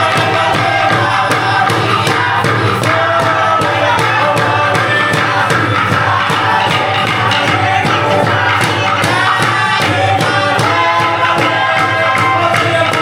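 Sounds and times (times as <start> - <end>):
group singing: 0.0 - 13.0
percussion beat: 0.0 - 13.0.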